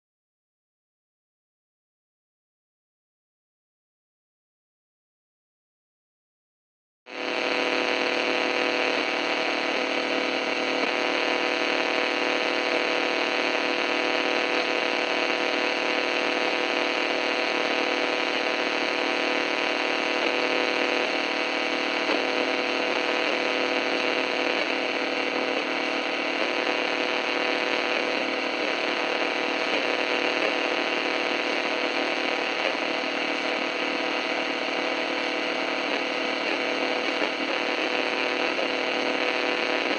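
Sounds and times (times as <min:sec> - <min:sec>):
radio static hiss: 0:07.1 - 0:39.9.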